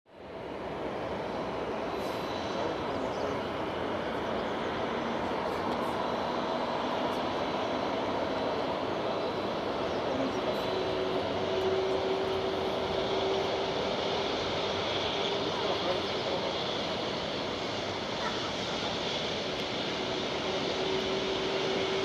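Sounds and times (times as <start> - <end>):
jet engines humming with whine: 0.1 - 22.0.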